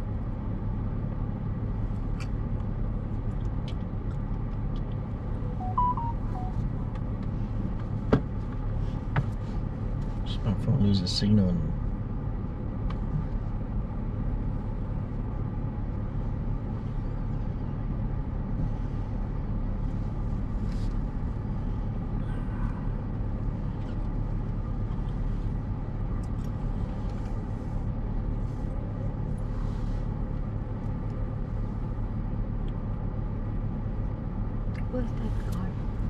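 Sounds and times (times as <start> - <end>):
car engine running: 0.0 - 36.0.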